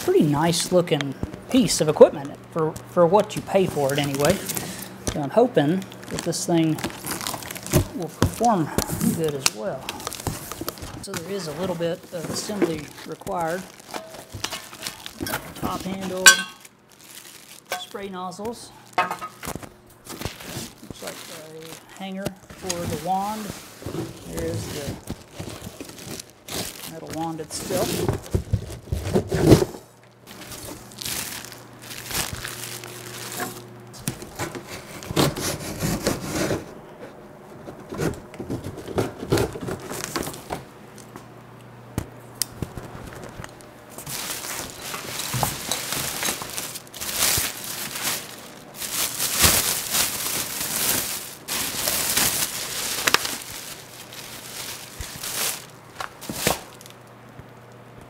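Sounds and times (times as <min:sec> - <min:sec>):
cardboard and plastic wrapping rustling: 0:00.0 - 0:40.7, 0:42.6 - 0:57.4.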